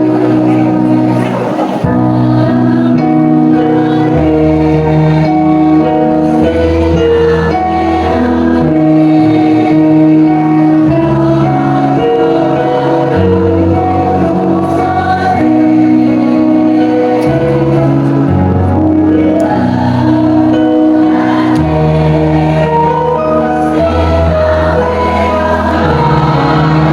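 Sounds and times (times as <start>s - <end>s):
choir singing: 0.0s - 26.9s.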